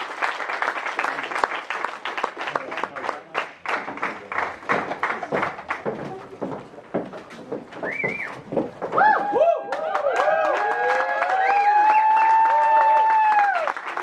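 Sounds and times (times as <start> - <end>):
audience applause: 0.0 - 6.3, 9.0 - 14.0.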